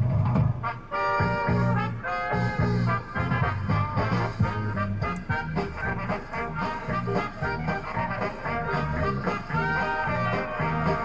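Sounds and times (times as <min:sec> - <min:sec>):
swing music with brass: 0:00.0 - 0:11.0.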